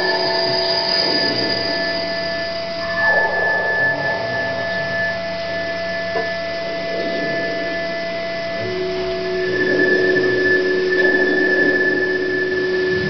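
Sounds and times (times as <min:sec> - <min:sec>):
grainy noise texture: 0:00.0 - 0:13.0
synthesizer drone of sine tones: 0:00.0 - 0:13.0.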